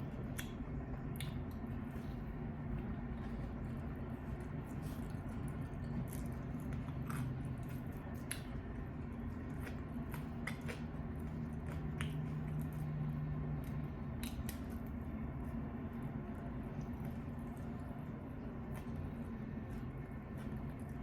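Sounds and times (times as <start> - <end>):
chewing chicken wings: 0.0 - 21.0
steady low hum: 0.0 - 21.0.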